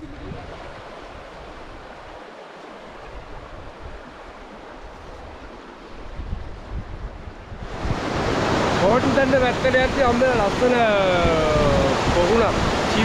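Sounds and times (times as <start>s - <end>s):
wind buffeting microphone: 0.0s - 2.2s, 3.1s - 13.0s.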